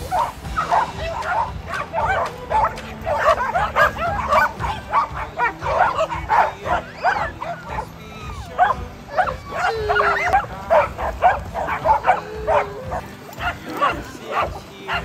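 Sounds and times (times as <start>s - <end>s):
dogs barking: 0.0s - 15.0s
dogs yelping: 0.0s - 15.0s.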